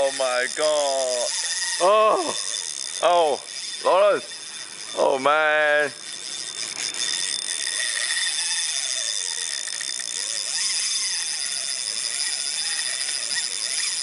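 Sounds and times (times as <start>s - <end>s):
fishing reel drag screaming: 0.0s - 14.0s.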